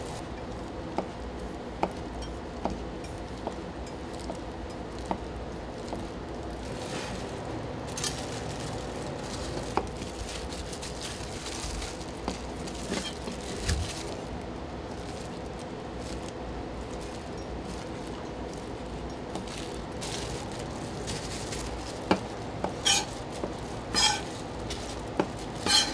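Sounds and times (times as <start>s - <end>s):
kitchen background hum: 0.0s - 25.9s.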